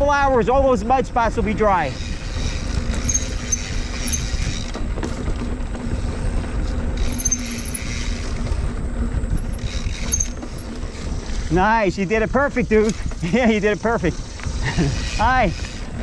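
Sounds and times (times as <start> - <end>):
bike tyre and drivetrain noise: 0.0 - 16.0
low wind rumble: 0.0 - 16.0.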